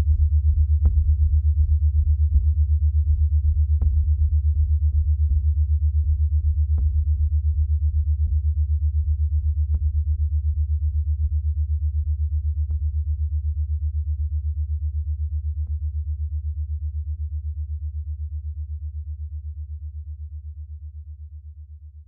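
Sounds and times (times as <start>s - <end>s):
low hum with pulsing beat: 0.0s - 22.0s.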